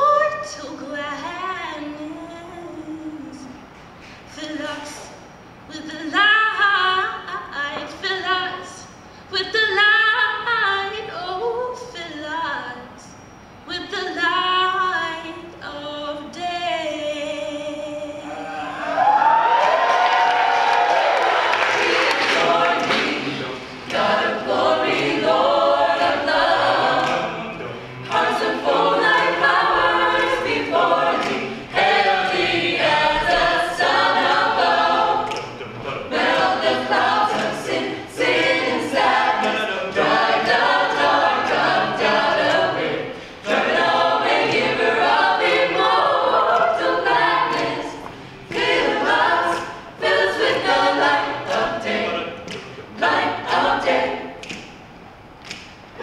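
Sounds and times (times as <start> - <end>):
a cappella group singing gospel: 4.3 - 56.0.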